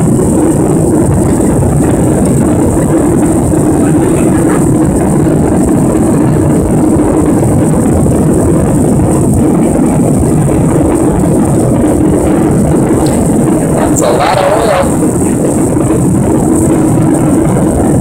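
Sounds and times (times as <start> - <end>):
airplane cabin jet noise: 0.0 - 18.0.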